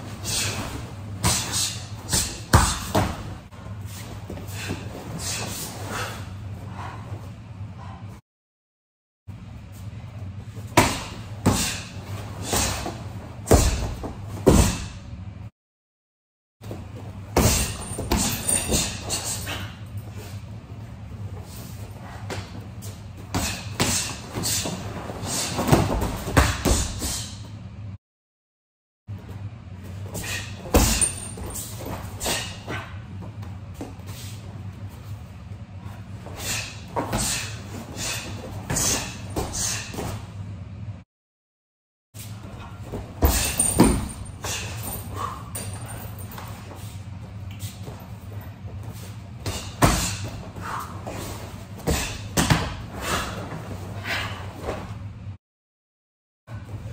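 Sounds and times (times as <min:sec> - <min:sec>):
steady low hum: 0:00.0 - 0:08.2, 0:09.3 - 0:15.5, 0:16.6 - 0:28.0, 0:29.1 - 0:41.0, 0:42.2 - 0:55.4.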